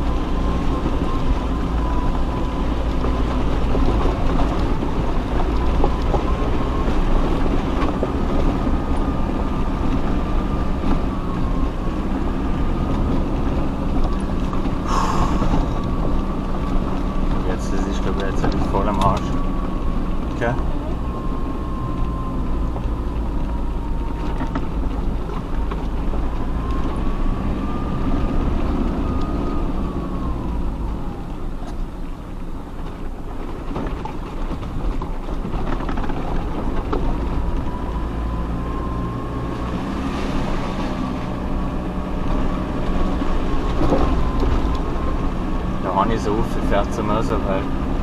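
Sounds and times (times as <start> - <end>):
off-road vehicle engine rumbling: 0.0 - 48.0
thin engine whine: 0.0 - 48.0.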